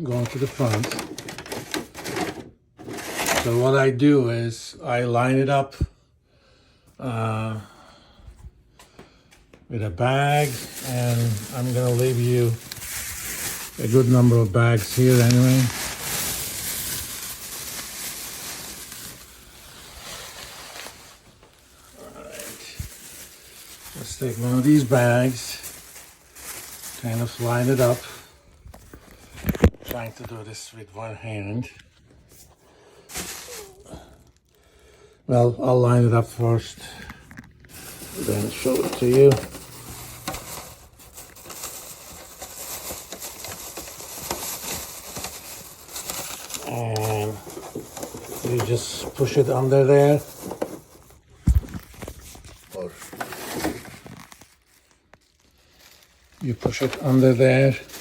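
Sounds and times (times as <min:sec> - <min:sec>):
plastic bags rustling: 0:00.0 - 0:03.9, 0:09.8 - 0:30.4, 0:32.2 - 0:58.0.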